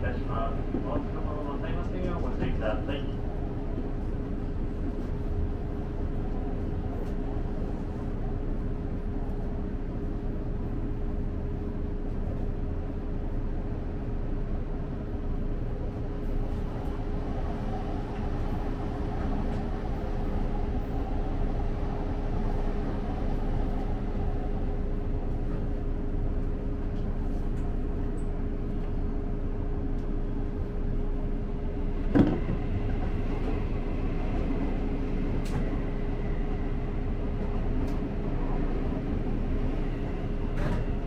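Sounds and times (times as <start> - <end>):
passing train: 0.0 - 41.0
train wheels rumbling on rail: 0.0 - 41.0.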